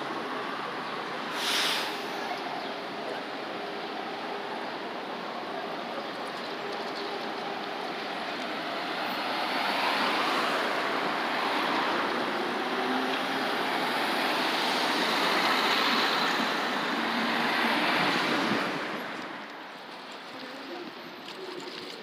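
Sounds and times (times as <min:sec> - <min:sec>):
passing cars: 0:00.0 - 0:22.0.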